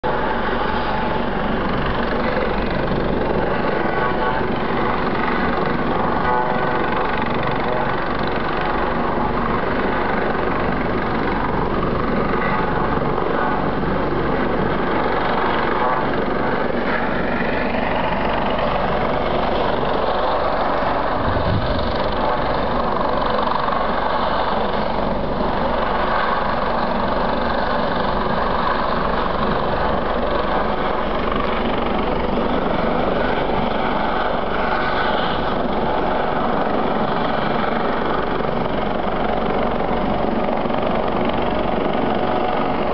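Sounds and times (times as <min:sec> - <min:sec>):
helicopter rotor and turbine: 0:00.0 - 0:42.9.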